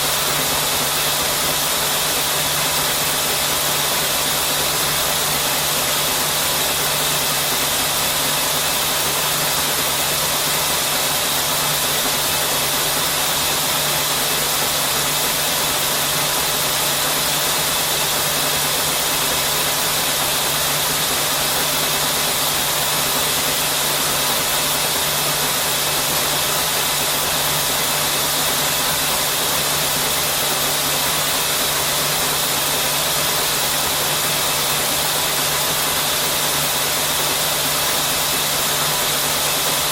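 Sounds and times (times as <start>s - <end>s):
knitting machine running: 0.0s - 39.9s.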